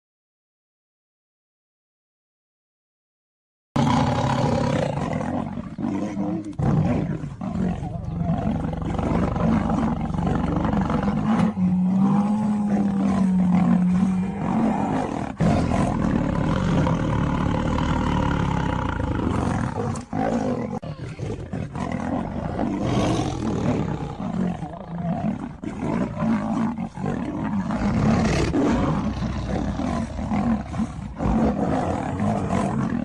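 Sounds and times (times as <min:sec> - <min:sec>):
lion and tiger roaring: 0:03.8 - 0:33.0.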